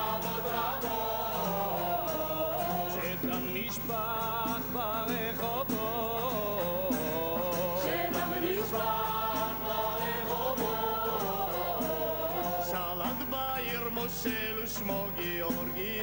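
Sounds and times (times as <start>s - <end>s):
frame drum beats: 0.0s - 16.0s
voices singing a chant: 0.0s - 16.0s.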